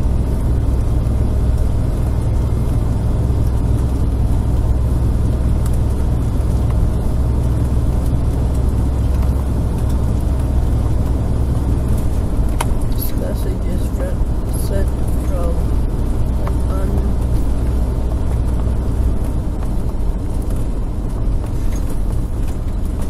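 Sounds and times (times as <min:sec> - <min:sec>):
engine and road rumble: 0:00.0 - 0:23.0.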